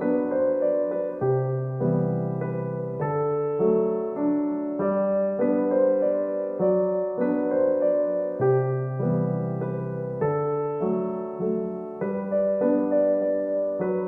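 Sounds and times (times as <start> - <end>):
soft piano tune: 0.0 - 14.0.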